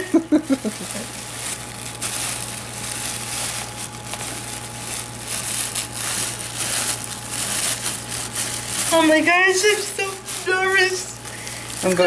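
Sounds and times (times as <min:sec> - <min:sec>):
wrapping crinkling and rustling: 0:00.0 - 0:12.0.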